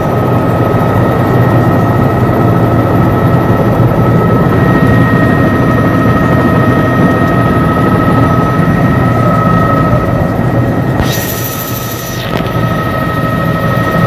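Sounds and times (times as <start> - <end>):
helicopter engine and rotor drone: 0.0 - 14.0
high engine whine: 0.0 - 14.0.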